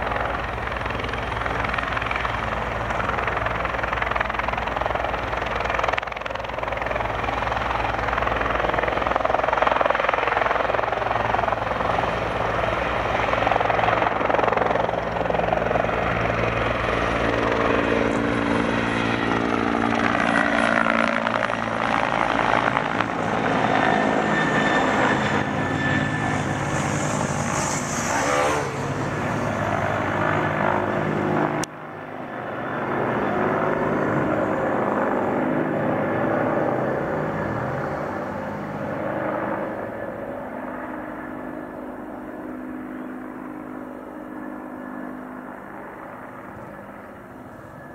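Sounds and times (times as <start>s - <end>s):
helicopter rotor and turbine drone: 0.0s - 47.9s.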